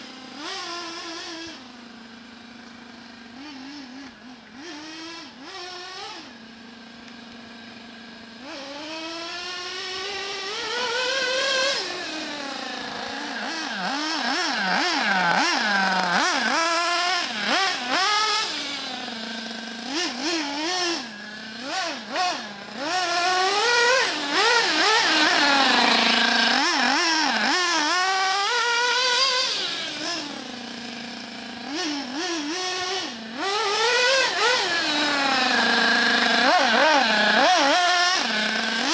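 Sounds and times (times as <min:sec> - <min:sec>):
nitro engine revving: 0:00.0 - 0:38.9.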